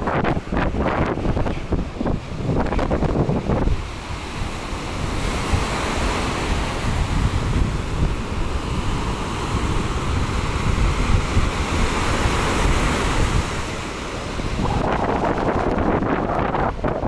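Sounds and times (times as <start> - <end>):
sea surf breaking on shore: 0.0 - 17.0
wind buffeting microphone: 0.0 - 17.0.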